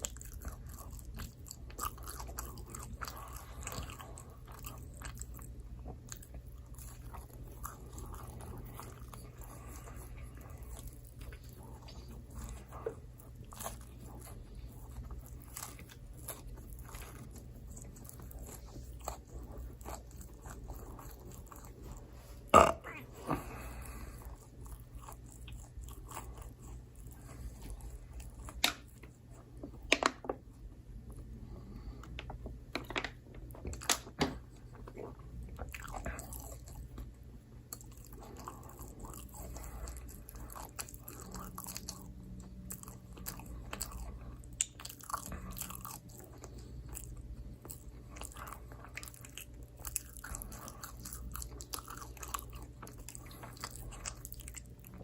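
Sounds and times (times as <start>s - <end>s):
chewing with wet mouth sounds: 0.0s - 32.4s, 33.2s - 55.0s.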